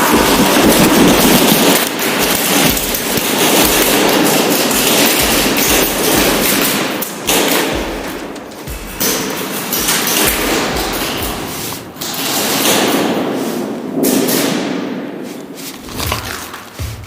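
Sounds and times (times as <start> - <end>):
airsoft gunfire: 0.0 - 15.2, 15.8 - 17.0
pellets striking: 0.0 - 17.0.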